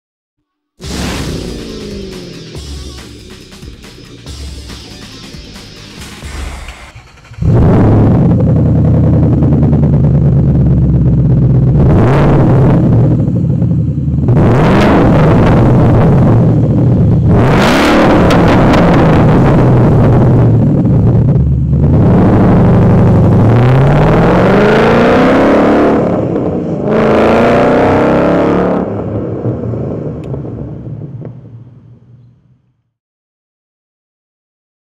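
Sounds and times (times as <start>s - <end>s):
car engine accelerating hard: 0.9s - 31.3s.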